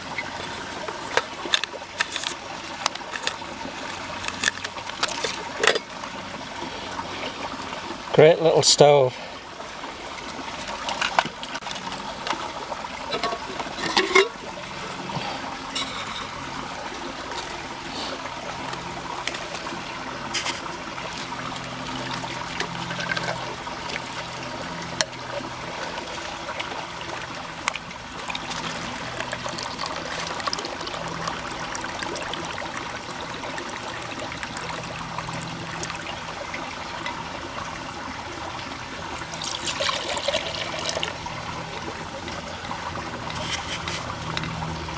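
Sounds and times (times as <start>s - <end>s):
waterfall trickling: 0.0s - 44.9s.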